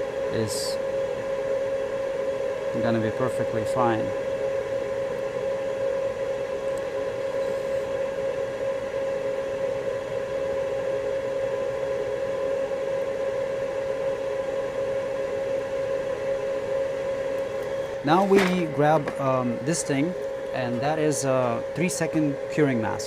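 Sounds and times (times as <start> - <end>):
electrical equipment humming: 0.0 - 23.0.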